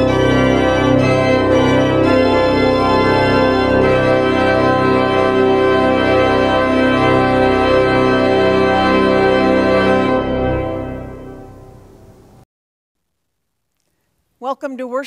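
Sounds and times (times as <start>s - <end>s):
organ playing sustained chords: 0.0s - 12.4s.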